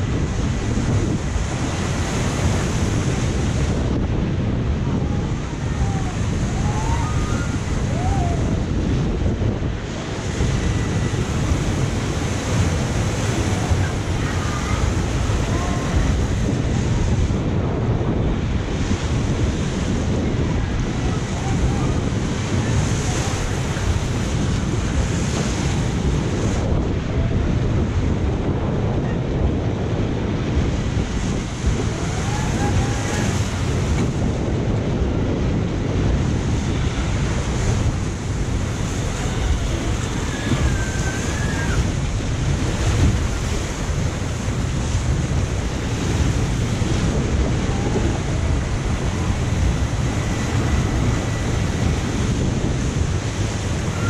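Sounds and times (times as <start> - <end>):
rushing and splashing water: 0.0 - 54.0
wind buffeting microphone: 0.0 - 54.0.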